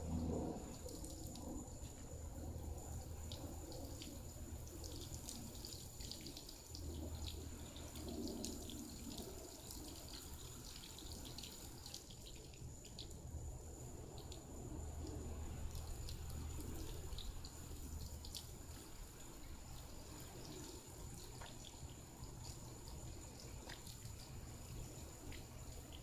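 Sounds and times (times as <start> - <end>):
water spattering on a car: 0.2 - 26.0.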